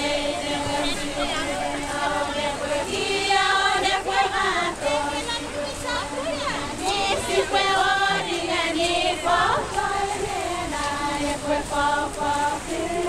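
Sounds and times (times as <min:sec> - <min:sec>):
women chanting in unison: 0:00.0 - 0:13.0.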